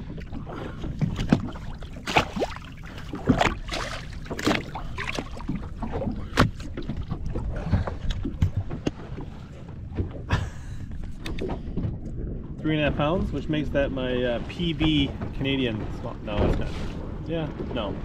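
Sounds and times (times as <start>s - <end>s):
knocks clicks and rattles on boat: 0.0s - 13.9s, 14.5s - 18.0s
wind and water rumble: 0.0s - 18.0s.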